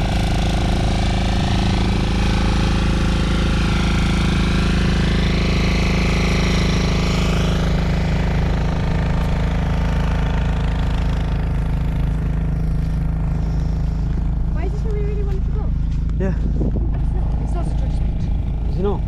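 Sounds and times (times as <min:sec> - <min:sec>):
quad bike engine drone: 0:00.0 - 0:19.0.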